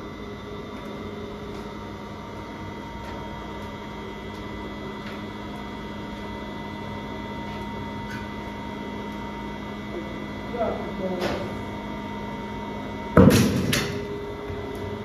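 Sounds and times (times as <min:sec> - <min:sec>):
electric motors humming: 0:00.0 - 0:15.0.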